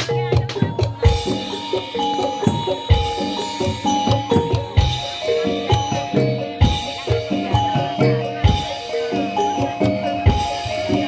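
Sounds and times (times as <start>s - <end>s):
heavy drum strokes: 0.0s - 11.0s
pitched metal percussion melody: 0.0s - 11.0s.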